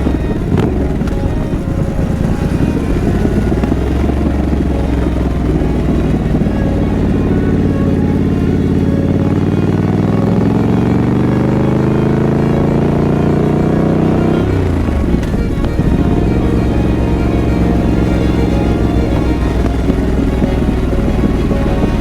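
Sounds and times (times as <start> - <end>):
motorcycle engine riding along: 0.0 - 22.0.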